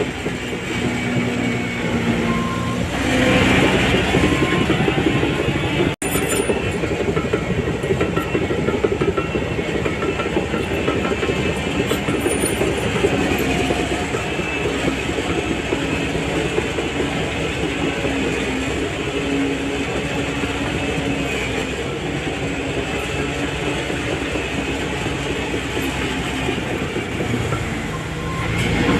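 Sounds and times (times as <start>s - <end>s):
bulldozer diesel engine under load: 0.0s - 28.9s
steel tracks clanking: 0.0s - 28.9s.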